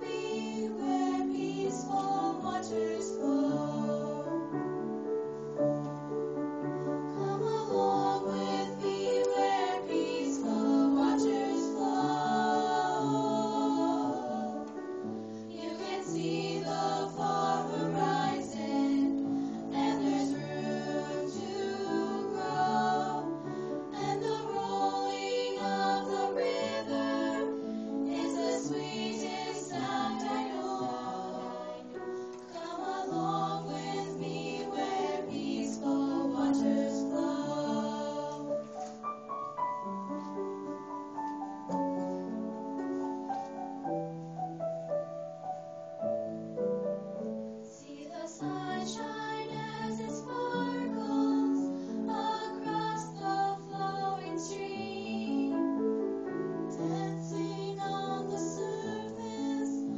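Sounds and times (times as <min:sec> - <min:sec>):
young voices singing in harmony: 0:00.0 - 0:05.5, 0:06.6 - 0:39.0, 0:47.6 - 0:59.9
piano accompaniment: 0:00.0 - 0:59.9.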